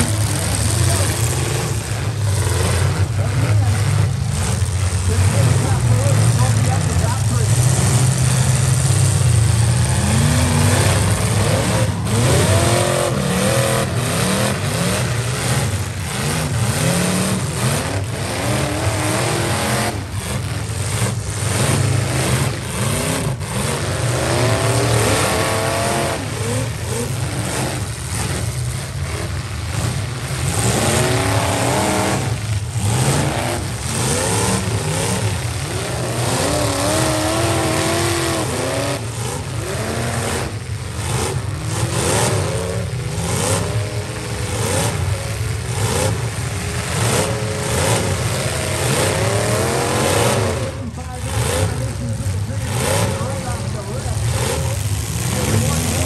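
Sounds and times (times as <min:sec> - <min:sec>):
low engine rumble: 0:00.0 - 0:56.0
truck engines revving: 0:00.0 - 0:56.0.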